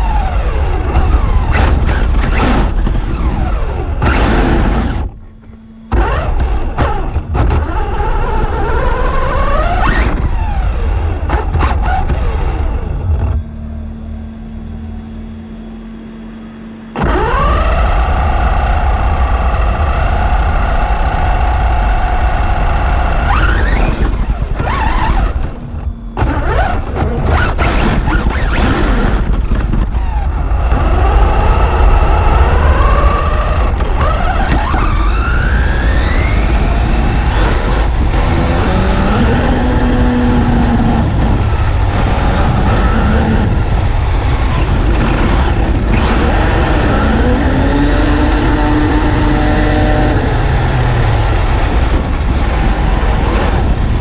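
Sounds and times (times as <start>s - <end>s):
electric motor whine: 0.0s - 54.0s
rumble of tyres and wind: 0.0s - 54.0s.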